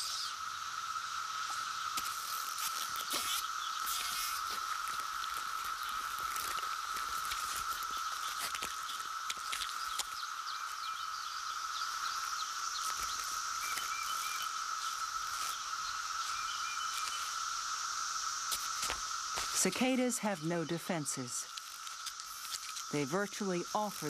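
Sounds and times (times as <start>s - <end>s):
cicadas buzzing drone: 0.0s - 24.0s
faint chirps: 0.0s - 24.0s.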